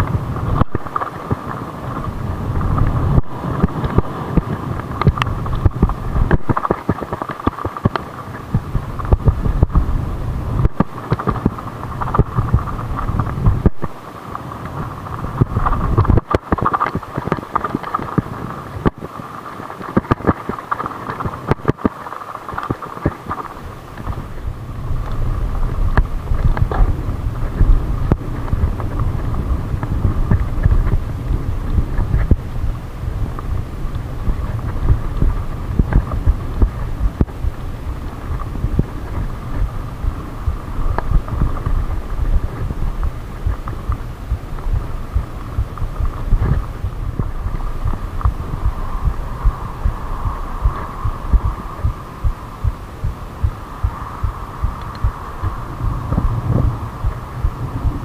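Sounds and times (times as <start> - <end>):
mountain bike rattling over dirt: 0.0 - 51.8
steady hum: 0.0 - 58.0
wind buffeting microphone: 0.0 - 58.0.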